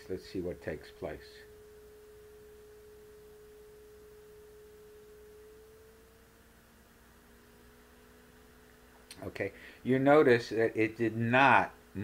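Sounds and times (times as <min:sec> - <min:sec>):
faint electronic tone: 0:00.0 - 0:12.0
fainter lower tone: 0:00.0 - 0:12.0.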